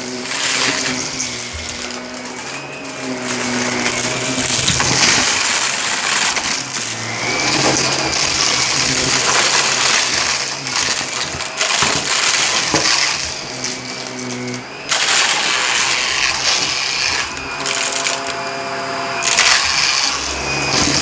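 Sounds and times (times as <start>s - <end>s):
vacuum cleaner running: 0.0s - 21.0s
debris crackling and clinking: 0.1s - 18.4s, 19.2s - 21.0s.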